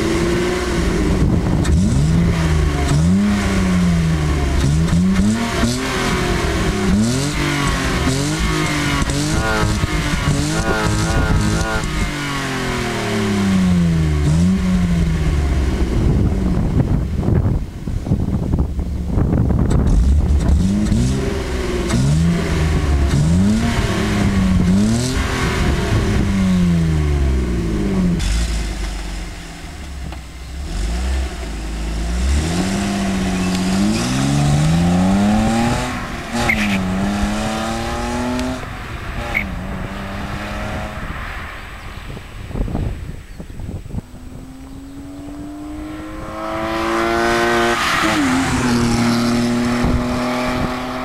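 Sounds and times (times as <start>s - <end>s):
car engine revving: 0.0s - 17.4s, 18.8s - 51.0s.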